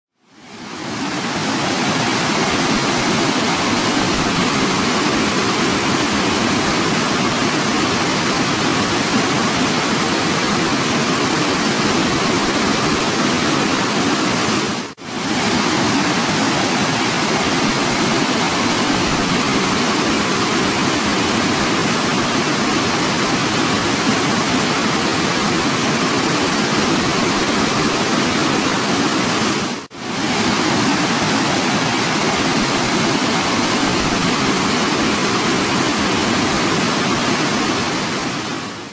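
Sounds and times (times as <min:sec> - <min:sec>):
waterfall rushing over rocks: 0:00.1 - 0:38.9.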